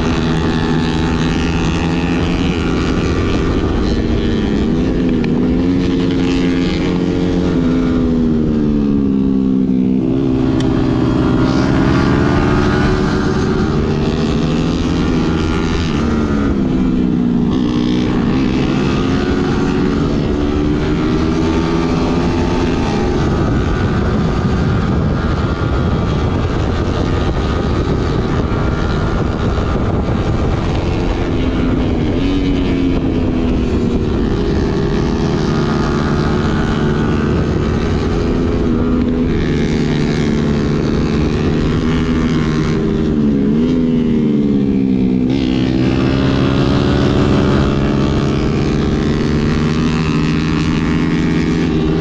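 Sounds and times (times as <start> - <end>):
motorcycle engine revving: 0.0 - 52.0
wind and road rush: 0.0 - 52.0.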